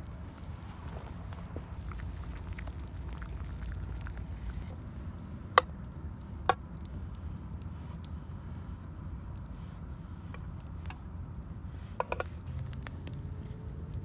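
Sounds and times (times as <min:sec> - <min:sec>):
faint crackles: 0:00.0 - 0:14.0
low steady rumble: 0:00.0 - 0:14.0.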